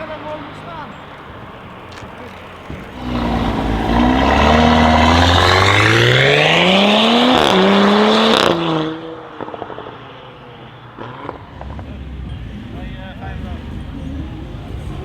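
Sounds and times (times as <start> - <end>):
exhaust crackles and pops: 0.0 - 7.6, 9.2 - 15.0
car engine accelerating hard: 0.0 - 15.0.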